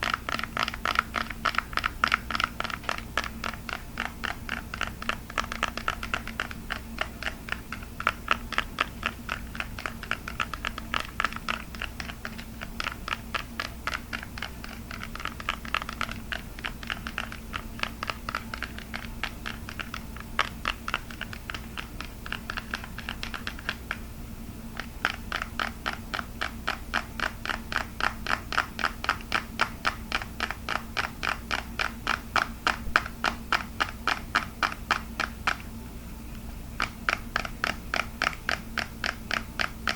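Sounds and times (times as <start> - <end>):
fast tapping on hard object: 0.0 - 24.0, 24.7 - 35.7, 36.8 - 39.9.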